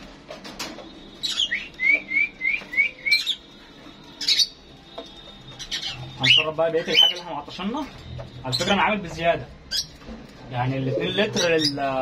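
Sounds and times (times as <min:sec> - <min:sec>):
small birds chirping: 0:01.1 - 0:10.1, 0:10.8 - 0:12.0.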